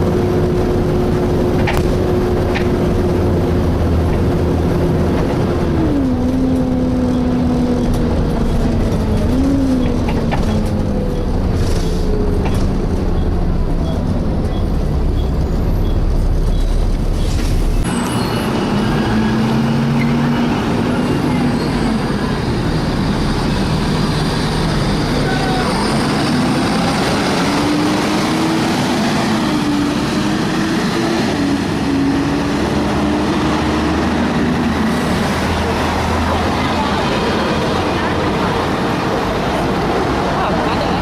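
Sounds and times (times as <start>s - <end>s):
bus engine running: 0.0s - 41.0s.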